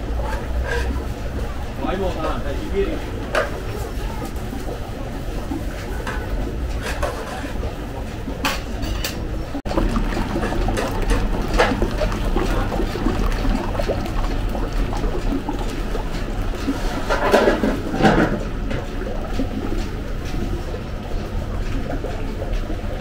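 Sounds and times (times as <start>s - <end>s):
batter sloshing: 0.0s - 23.0s
mixer paddle humming: 0.0s - 23.0s
small kitchen clicks: 0.2s - 4.9s, 5.6s - 20.5s.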